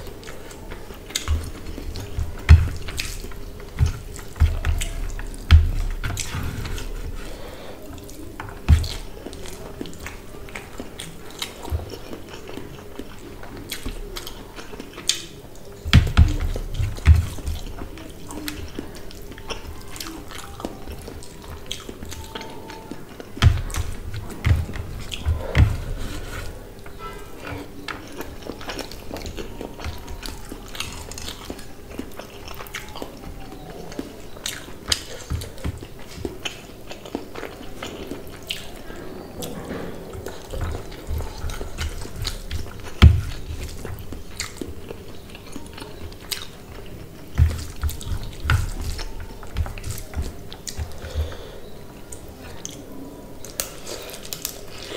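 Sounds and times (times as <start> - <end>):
fingers squeezing wet food: 0.0 - 52.8
chewing and lip-smacking: 0.0 - 54.9.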